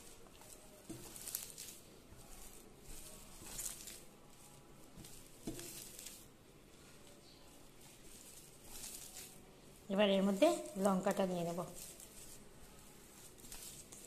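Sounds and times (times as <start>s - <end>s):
hand squishing potato: 0.0s - 14.0s.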